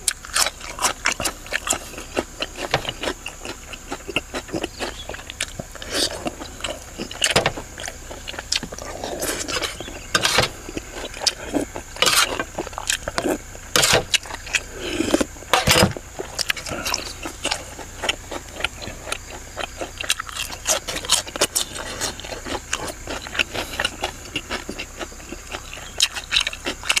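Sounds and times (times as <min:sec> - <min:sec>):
chewing and lip smacking: 0:00.0 - 0:27.0.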